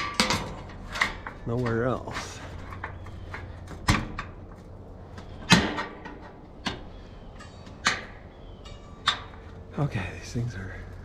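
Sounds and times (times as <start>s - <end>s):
tools knocking and clattering: 0.0s - 9.6s.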